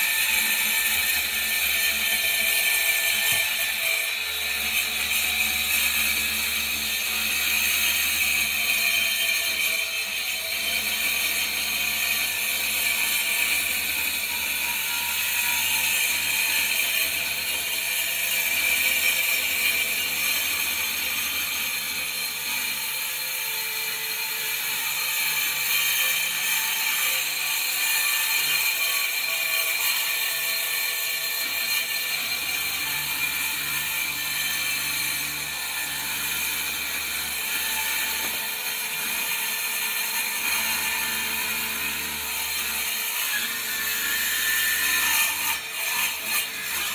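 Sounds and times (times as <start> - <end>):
power saw cutting floor: 0.0 - 46.9.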